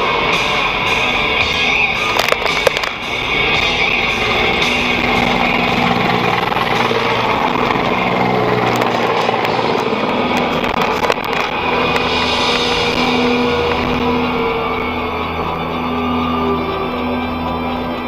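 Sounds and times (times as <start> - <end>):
car driving on highway: 0.0 - 18.0.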